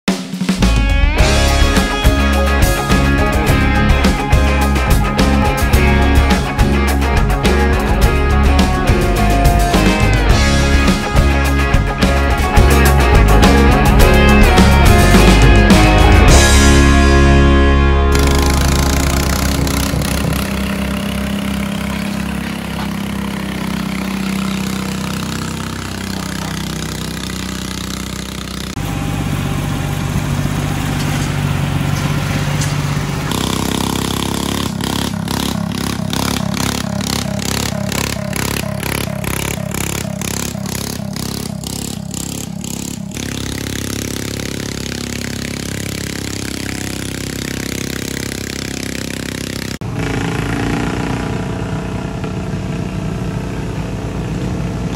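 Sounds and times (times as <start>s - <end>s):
tractor engines running hard: 0.7s - 54.9s
pulsing engine sound: 1.2s - 54.9s.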